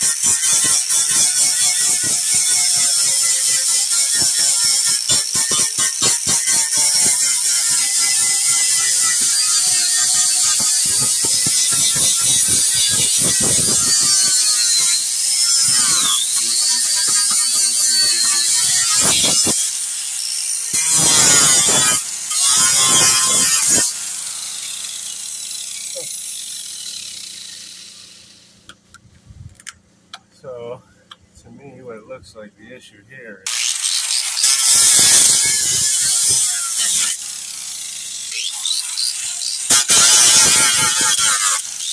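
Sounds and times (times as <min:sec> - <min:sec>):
angle grinder grinding: 0:00.0 - 0:28.7, 0:33.5 - 0:41.9.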